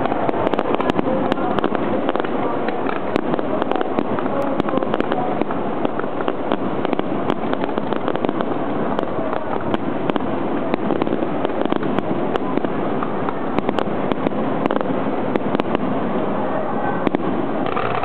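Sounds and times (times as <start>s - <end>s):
fireworks crackling and bursting: 0.0s - 18.0s.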